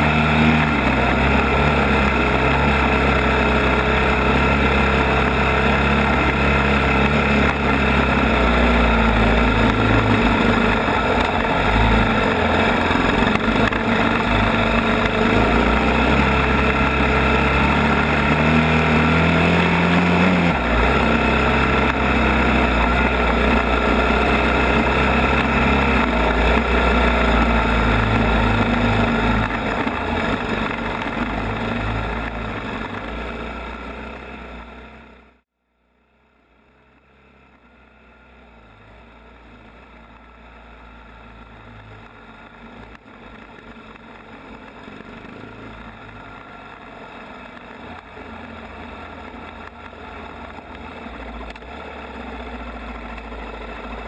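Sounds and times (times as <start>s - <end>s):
atv engine revving: 0.0s - 35.4s, 36.6s - 54.0s.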